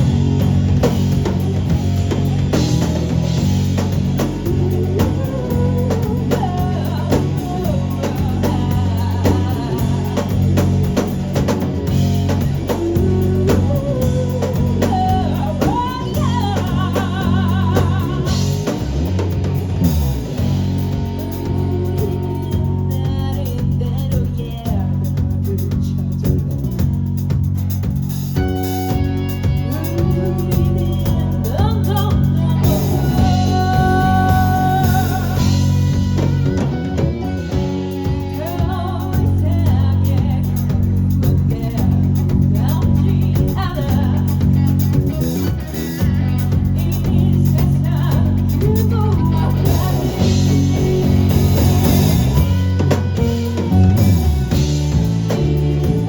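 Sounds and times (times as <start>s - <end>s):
person singing: 0.0s - 19.3s, 21.2s - 26.7s, 29.4s - 56.0s
drum kit: 0.0s - 56.0s
electric guitar: 0.0s - 56.0s.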